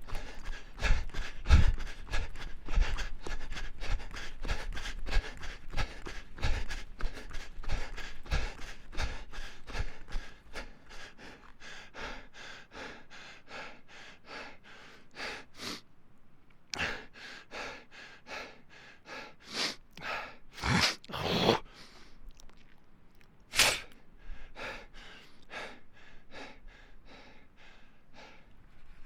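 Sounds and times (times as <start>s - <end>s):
man breathing hard: 0.0s - 15.8s, 16.7s - 20.6s, 23.8s - 29.0s.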